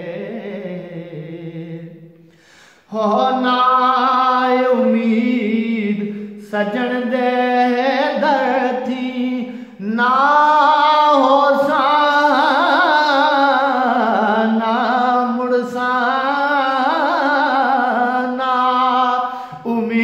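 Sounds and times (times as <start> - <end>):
man singing a long held note: 0.0 - 2.2, 2.9 - 20.0.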